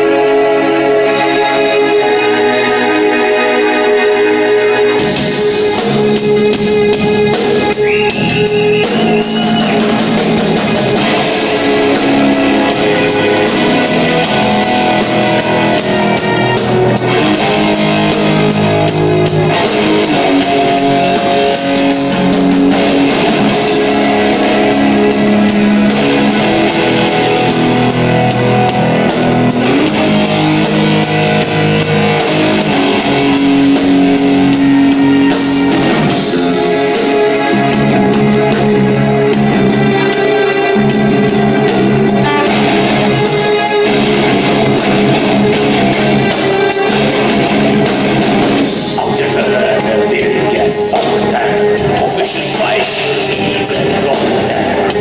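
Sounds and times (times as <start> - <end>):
heavy rock music: 0.0 - 55.0.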